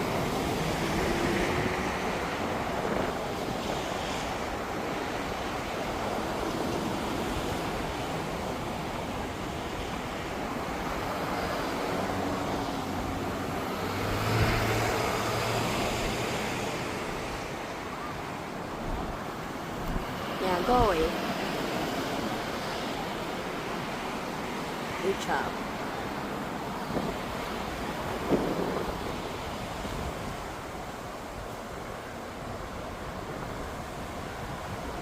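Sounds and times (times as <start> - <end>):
outdoor rushing noise: 0.0 - 33.0.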